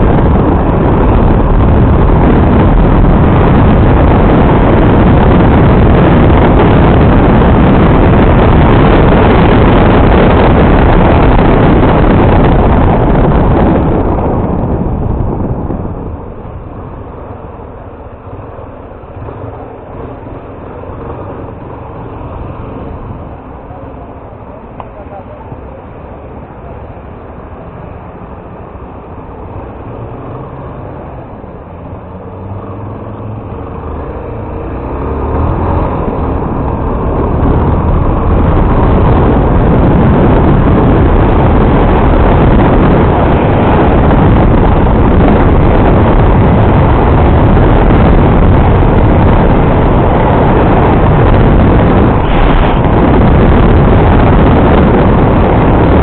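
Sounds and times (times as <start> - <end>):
wind rush over microphone: 0.0 - 56.0.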